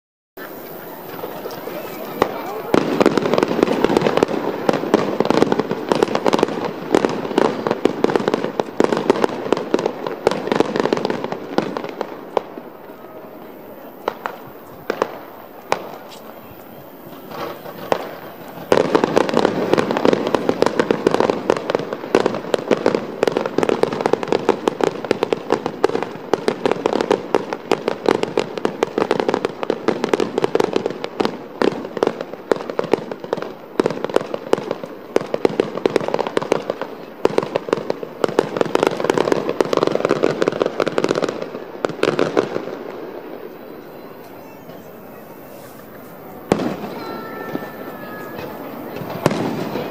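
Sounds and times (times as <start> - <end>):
fireworks crackle: 0.4 - 49.9
fireworks shells bursting: 0.4 - 49.9.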